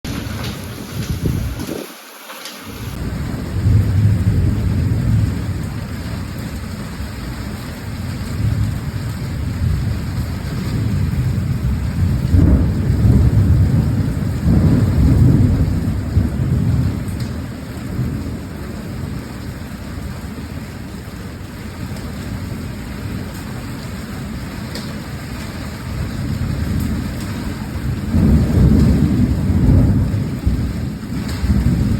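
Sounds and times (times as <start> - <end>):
thunder rumbling: 0.0 - 1.9, 2.8 - 31.9
steady rain: 0.0 - 31.9.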